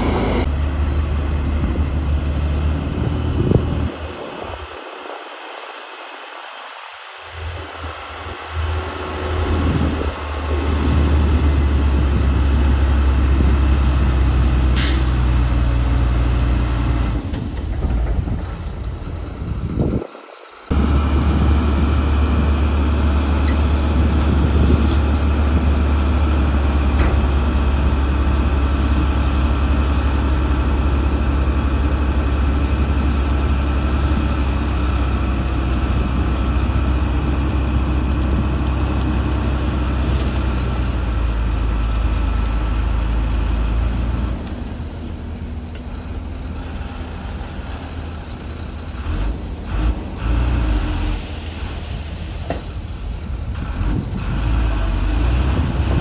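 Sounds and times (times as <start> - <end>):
heavy diesel engine droning: 0.0 - 5.8, 6.8 - 56.0.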